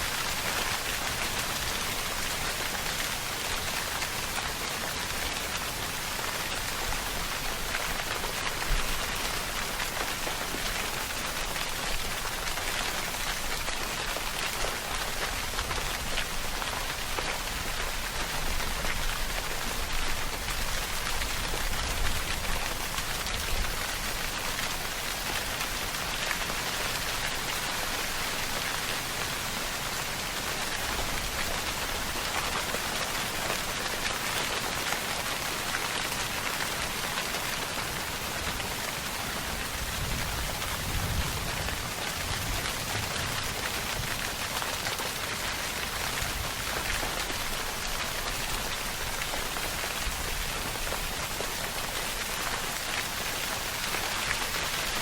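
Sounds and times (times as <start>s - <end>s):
steady rainfall: 0.0s - 55.0s.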